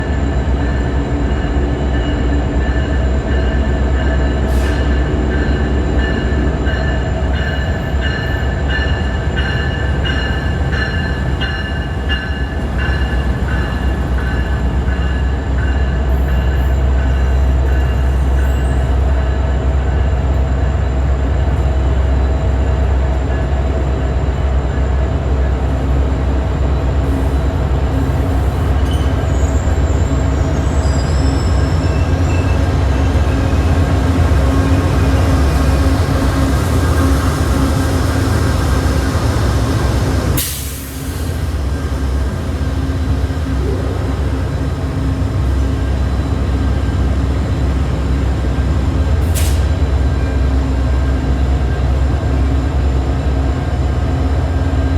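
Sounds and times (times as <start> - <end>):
diesel locomotive rumble: 0.0 - 54.9.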